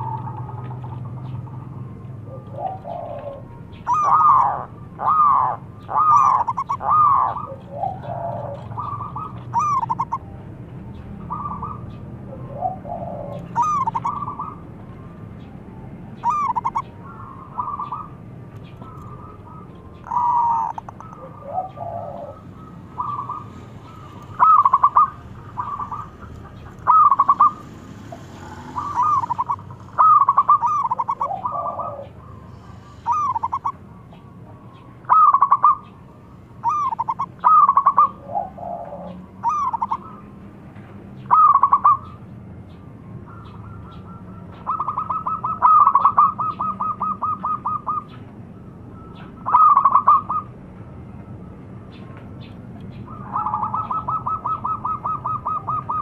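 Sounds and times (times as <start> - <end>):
dove cooing in trilled phrases: 0.0 - 10.3, 11.2 - 14.7, 16.1 - 35.9, 36.6 - 40.3, 41.2 - 42.2, 43.3 - 48.2, 49.1 - 50.5, 53.1 - 56.0.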